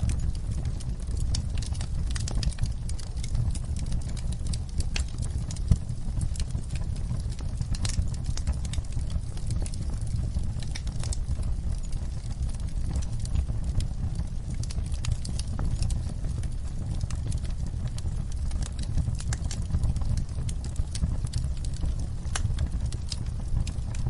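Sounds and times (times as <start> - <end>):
low steady fire rumble: 0.0 - 24.0
wood fire crackling and popping: 0.0 - 24.0.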